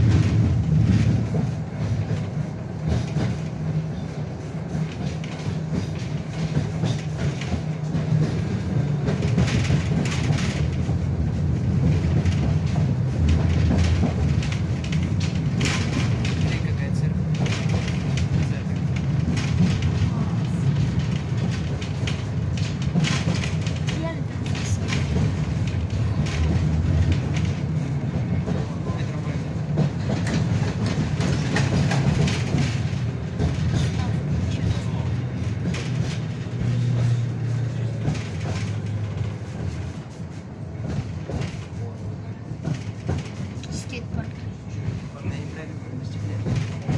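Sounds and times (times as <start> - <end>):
tram wheels rumbling: 0.0 - 46.9.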